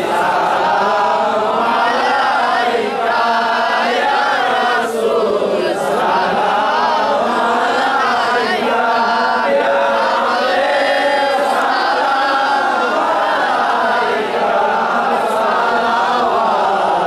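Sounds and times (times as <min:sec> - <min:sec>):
men chanting in chorus: 0:00.0 - 0:17.0.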